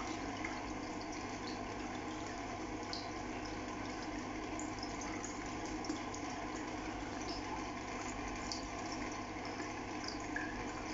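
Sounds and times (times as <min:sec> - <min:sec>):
running water: 0:00.0 - 0:10.9.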